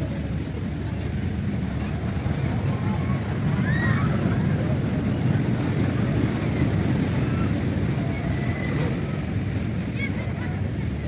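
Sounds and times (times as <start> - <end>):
low rumbling fairground din: 0.0 - 11.0
distant voices and squeals: 1.9 - 11.0.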